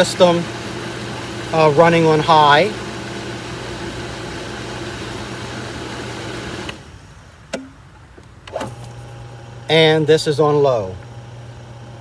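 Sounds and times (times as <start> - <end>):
pool filter pump running: 0.0 - 7.1, 8.5 - 12.0.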